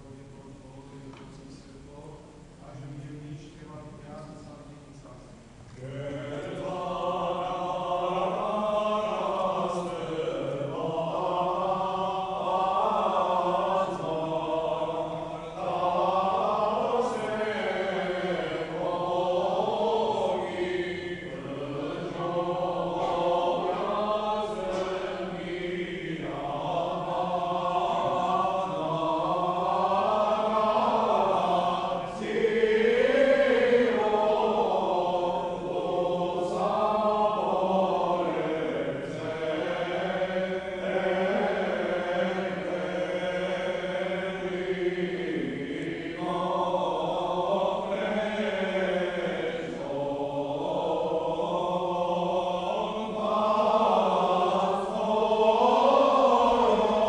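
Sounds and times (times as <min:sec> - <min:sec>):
choir chanting a hymn: 0:00.0 - 0:57.0.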